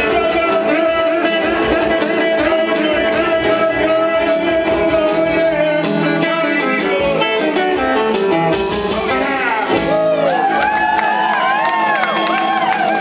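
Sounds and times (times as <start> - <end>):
electric guitar: 0.0 - 13.0
live blues band: 0.0 - 13.0.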